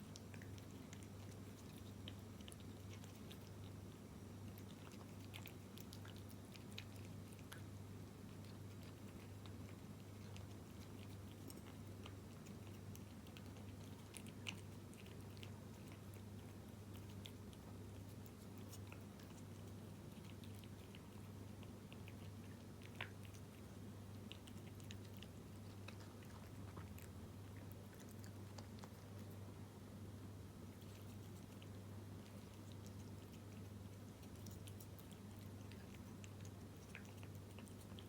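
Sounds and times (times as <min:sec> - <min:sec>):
cat chewing wet food: 0:00.0 - 0:38.0
steady low hum: 0:00.0 - 0:38.0.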